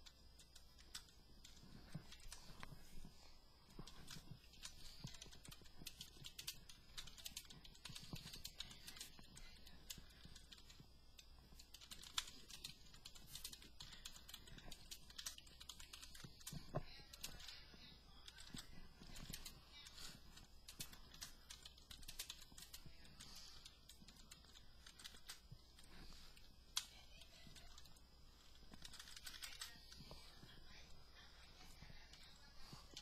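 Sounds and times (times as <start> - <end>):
faint keyboard typing clicks: 0.0 - 3.0, 3.6 - 33.0.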